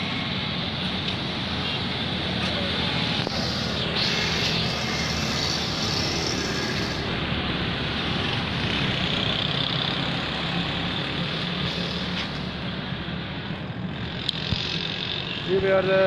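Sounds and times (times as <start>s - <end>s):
traffic on wet street: 0.0s - 16.0s.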